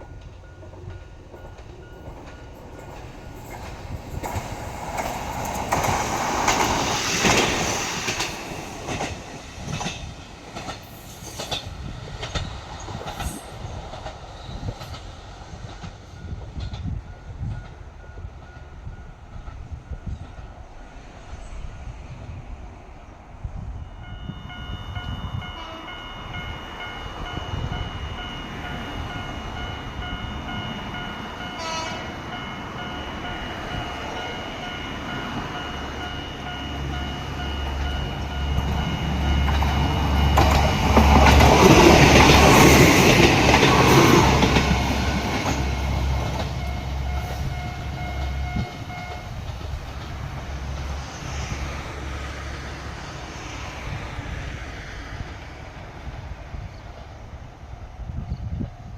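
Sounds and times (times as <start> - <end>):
diesel railcar engine drone: 0.0 - 58.9.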